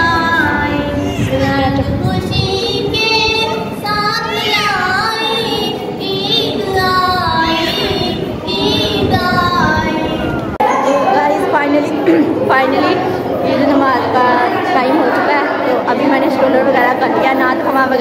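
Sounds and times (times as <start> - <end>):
woman singing devotional verse: 0.0 - 10.3, 11.2 - 18.0.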